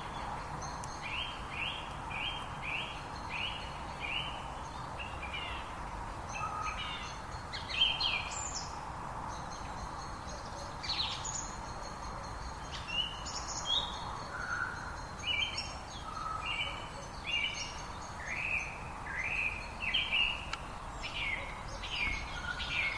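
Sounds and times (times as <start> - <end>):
songbirds chirping: 0.0 - 22.9.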